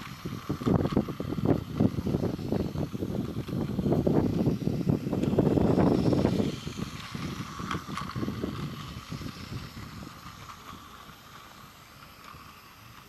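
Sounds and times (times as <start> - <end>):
toy train whirring and rattling: 0.0 - 13.0.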